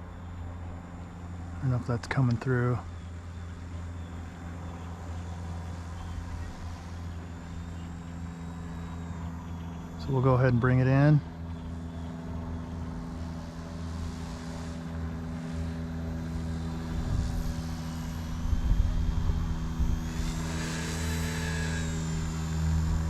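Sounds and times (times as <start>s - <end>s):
toy helicopter motor whining: 2.4s - 23.0s.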